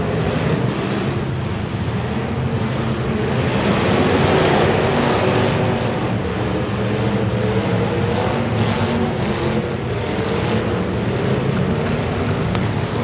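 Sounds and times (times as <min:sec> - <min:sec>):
car engines running roughly: 0:00.0 - 0:13.0.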